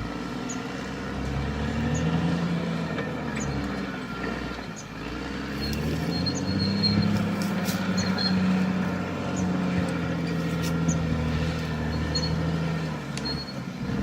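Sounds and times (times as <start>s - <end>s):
bulldozer diesel engine under load: 0.0s - 14.0s.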